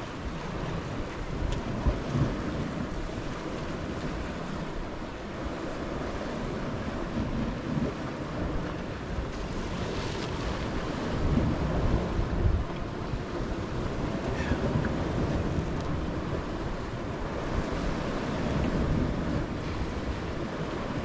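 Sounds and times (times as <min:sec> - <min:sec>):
surf breaking on rocky shore: 0:00.0 - 0:21.0
wind buffeting microphone: 0:00.0 - 0:21.0.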